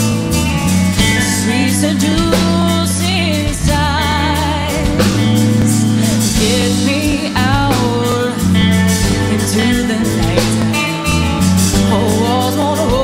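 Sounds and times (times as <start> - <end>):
low bass notes: 0.0 - 13.0
woman singing with vibrato: 1.0 - 13.0.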